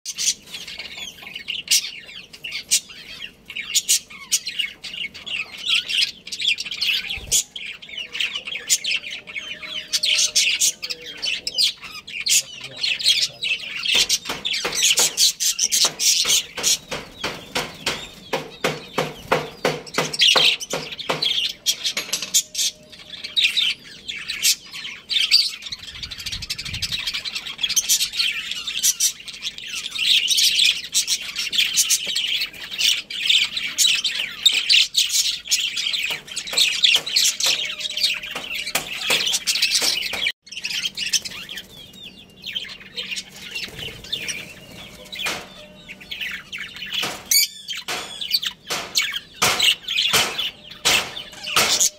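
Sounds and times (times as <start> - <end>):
budgerigars chirping: 0.1 - 51.9.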